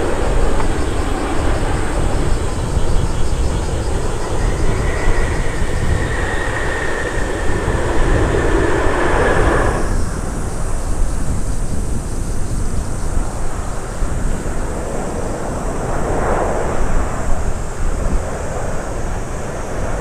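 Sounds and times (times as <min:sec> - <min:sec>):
jet engine high whine: 0:00.0 - 0:20.0
jet engine roar: 0:00.0 - 0:20.0.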